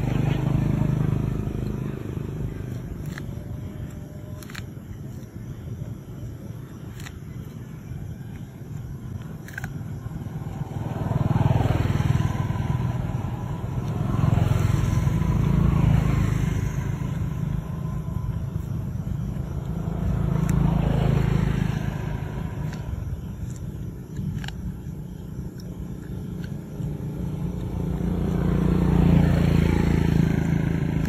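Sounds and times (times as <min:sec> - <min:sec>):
vehicles passing with engine rumble: 0:00.0 - 0:31.0.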